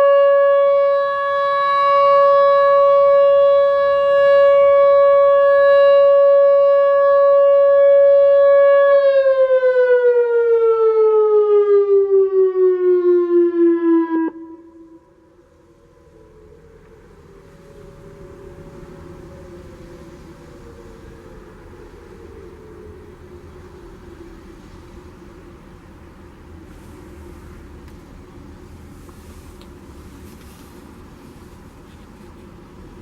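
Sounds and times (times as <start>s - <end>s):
warning siren steady tone: 0.0s - 30.5s.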